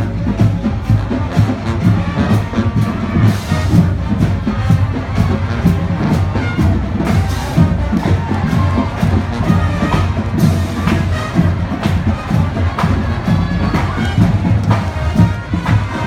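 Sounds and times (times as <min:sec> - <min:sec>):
drums keeping a steady beat: 0:00.0 - 0:16.0
marching band playing: 0:00.0 - 0:16.0.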